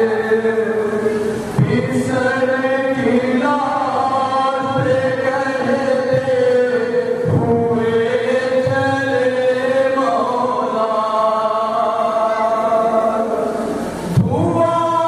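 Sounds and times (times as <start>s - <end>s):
man chanting through microphone: 0.0s - 15.0s.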